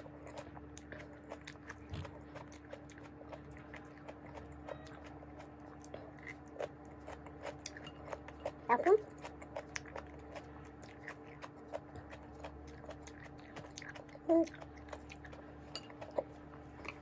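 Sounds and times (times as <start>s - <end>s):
faint steady hum: 0.0s - 17.0s
person chewing: 0.0s - 17.0s.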